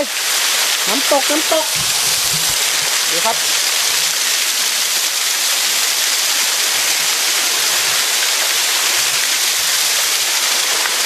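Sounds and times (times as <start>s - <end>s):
waterfall splashing onto rock: 0.0s - 11.0s.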